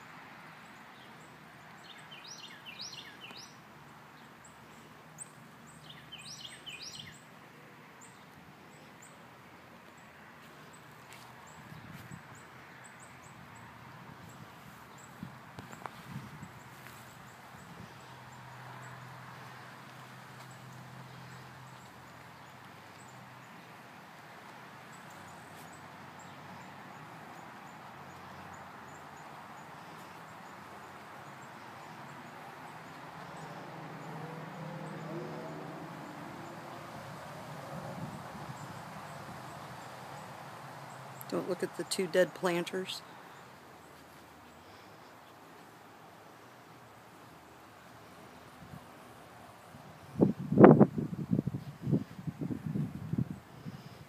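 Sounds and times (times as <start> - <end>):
songbird chirping: 0.0 - 52.2
background hiss: 0.0 - 54.0
outdoor background noise: 0.0 - 54.0.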